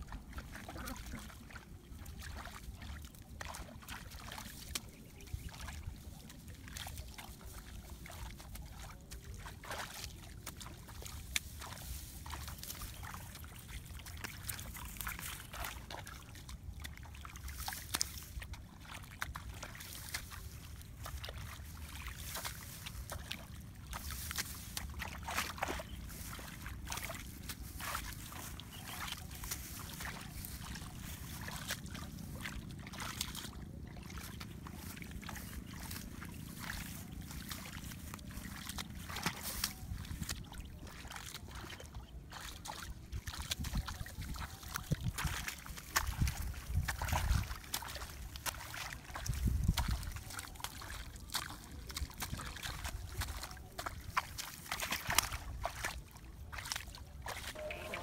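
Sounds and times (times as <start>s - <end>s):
hands splashing in muddy water: 0.0s - 58.0s.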